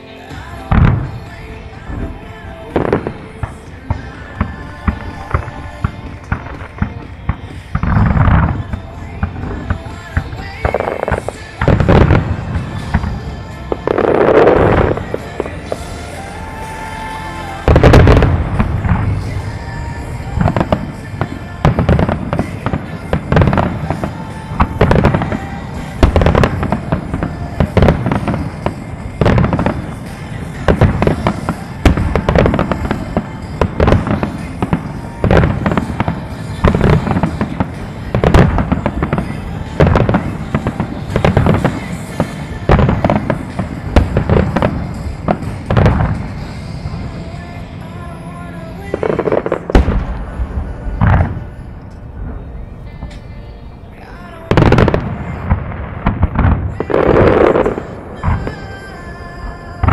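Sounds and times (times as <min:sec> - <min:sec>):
fireworks booming and crackling: 0:00.0 - 0:59.9
music playing: 0:00.0 - 0:59.9.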